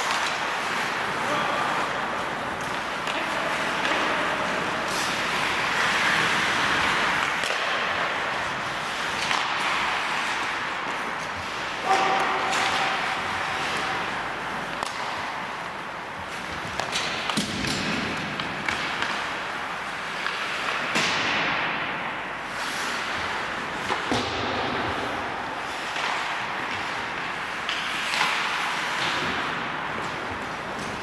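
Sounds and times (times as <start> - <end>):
skate blades scraping on ice: 0.0 - 21.5, 22.3 - 31.0
sticks clacking on puck: 0.0 - 31.0.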